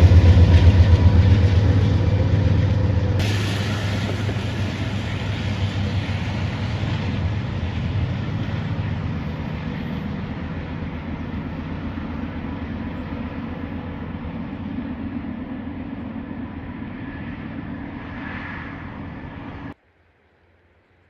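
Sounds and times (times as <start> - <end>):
freight train wheels rumbling: 0.0 - 19.8
faint steady tones: 0.0 - 21.0.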